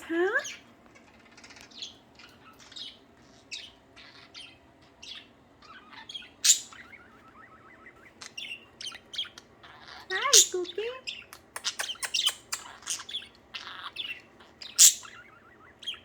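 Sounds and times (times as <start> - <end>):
budgerigars chirping: 0.0 - 16.0.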